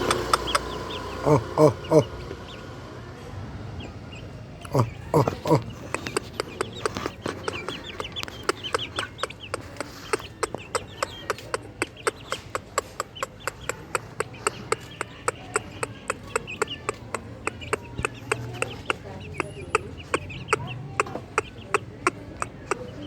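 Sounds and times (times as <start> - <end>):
chickens clucking and chirping: 0.0 - 23.0.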